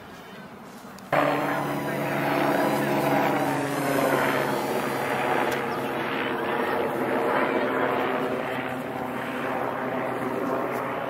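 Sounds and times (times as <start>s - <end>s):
small propeller motor buzzing: 1.1s - 11.0s.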